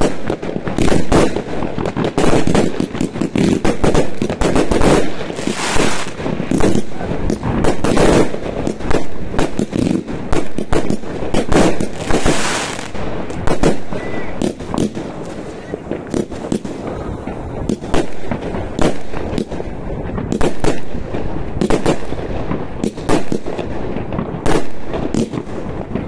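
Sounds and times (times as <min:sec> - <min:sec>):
crackling hiss: 0:00.0 - 0:26.0
fireworks and firecrackers banging: 0:00.0 - 0:26.0.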